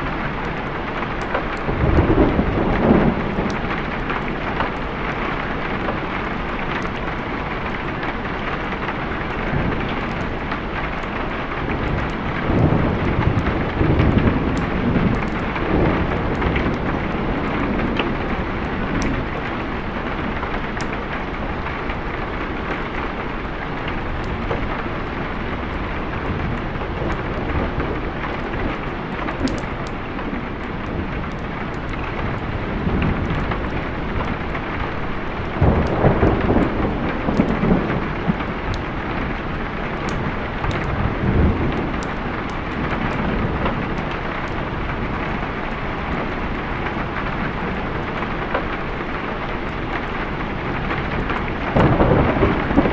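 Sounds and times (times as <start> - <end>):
steady rain: 0.0 - 52.9
thunder rumbling: 0.0 - 52.9.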